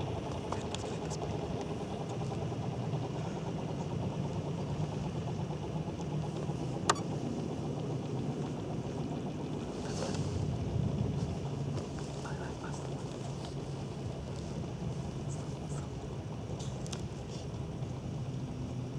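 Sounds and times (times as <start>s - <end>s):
model helicopter engine drone: 0.0s - 18.9s.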